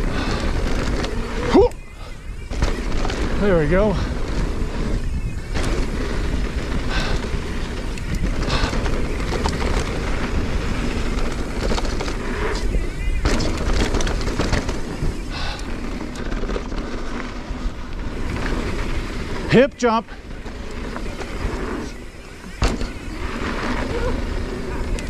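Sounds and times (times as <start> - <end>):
tyres rolling over dirt: 0.0 - 25.0
wind buffeting microphone: 0.0 - 25.0.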